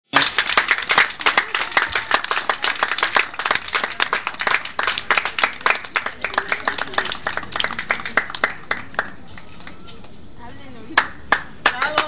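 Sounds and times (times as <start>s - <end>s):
people clapping: 0.1s - 10.2s, 10.9s - 12.0s.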